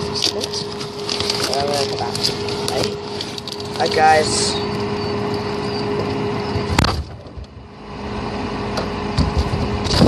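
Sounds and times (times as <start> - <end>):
muffled freezer hum: 0.0 - 10.0.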